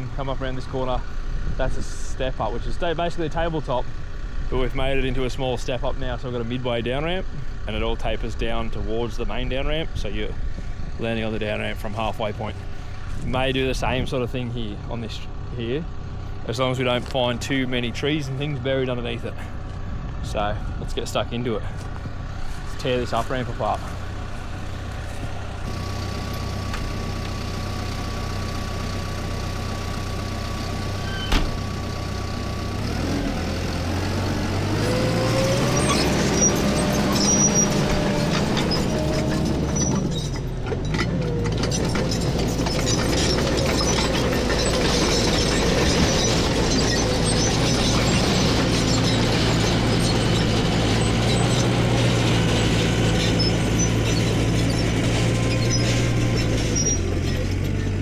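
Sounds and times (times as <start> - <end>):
bulldozer diesel engine revving: 0.0 - 58.0.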